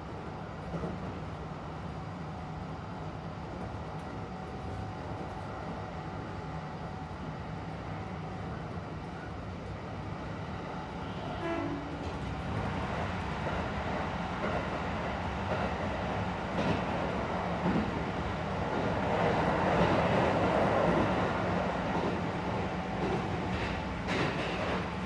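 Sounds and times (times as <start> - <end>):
train motor and gear hum: 0.0 - 25.0.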